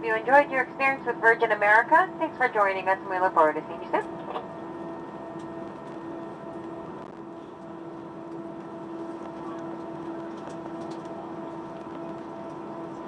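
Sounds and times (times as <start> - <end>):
airplane cabin rush: 0.0 - 13.0
constant hum: 0.0 - 13.0.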